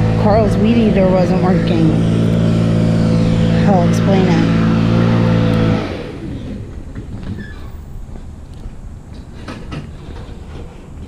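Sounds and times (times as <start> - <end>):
engine running: 0.0 - 11.0
low outdoor rumble: 0.0 - 11.0.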